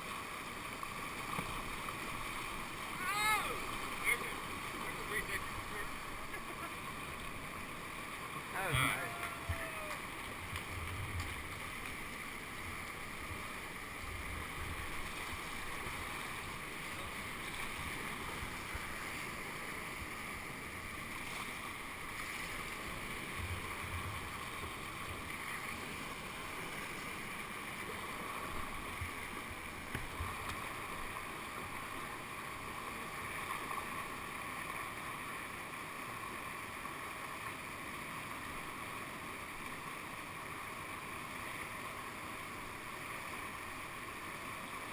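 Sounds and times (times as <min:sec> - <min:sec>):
whitewater rushing: 0:00.0 - 0:44.9.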